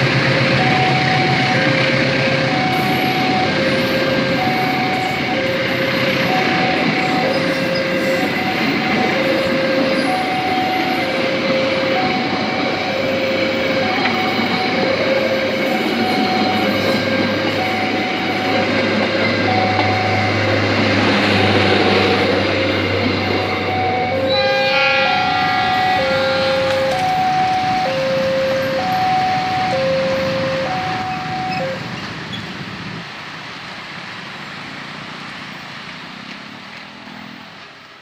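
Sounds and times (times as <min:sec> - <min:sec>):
two-tone crossing alarm ringing: 0:00.0 - 0:31.9
train wheels on rails: 0:00.0 - 0:38.0.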